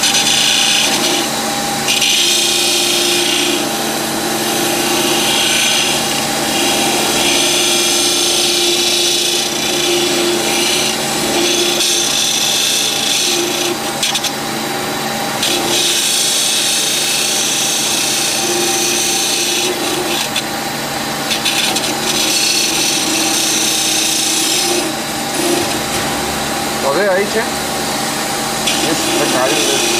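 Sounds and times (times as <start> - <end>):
grinding wheel hissing on steel: 0.0 - 29.9
steady motor hum: 0.0 - 29.9.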